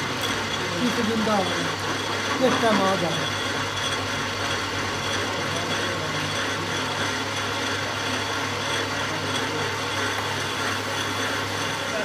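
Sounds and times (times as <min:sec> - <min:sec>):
lathe cutting metal: 0:00.0 - 0:12.0.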